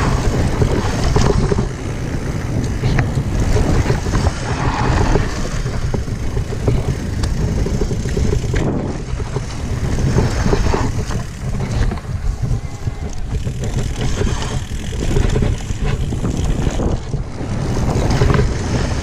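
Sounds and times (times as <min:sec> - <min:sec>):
bike tyres and frame rattling: 0:00.0 - 0:19.0
wind buffeting microphone: 0:00.0 - 0:19.0.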